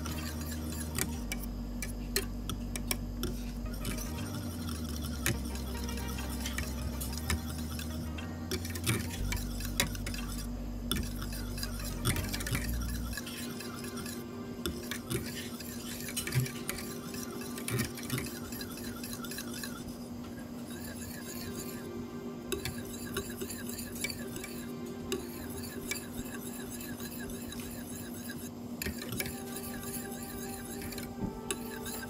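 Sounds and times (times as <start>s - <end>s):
whisk scraping a metal saucepan: 0.0s - 32.0s.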